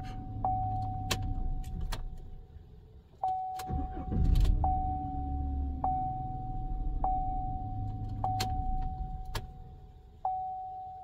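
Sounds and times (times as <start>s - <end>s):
pickup engine cranking and idling: 0.0s - 10.2s.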